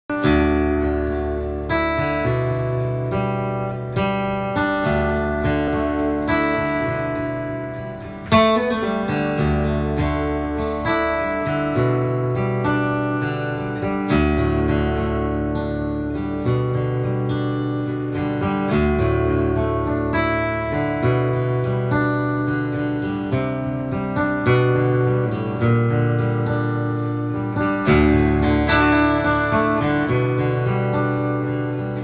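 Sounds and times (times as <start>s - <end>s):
acoustic guitar chords: 0.0s - 32.0s.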